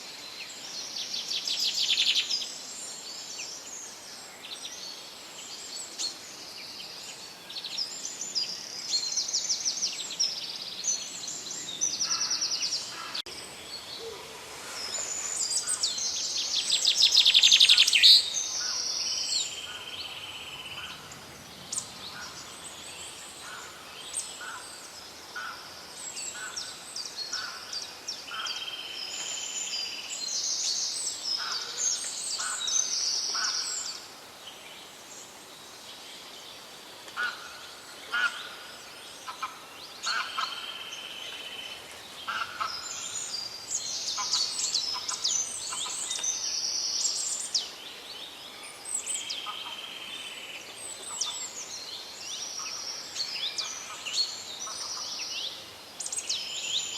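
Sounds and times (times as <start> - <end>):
songbirds trilling and chirping: 0.0 - 56.9.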